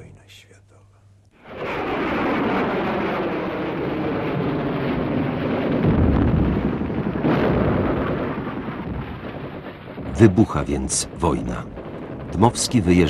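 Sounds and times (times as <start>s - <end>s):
artillery explosions rumbling: 1.4s - 13.0s
deep boom: 1.4s - 13.0s.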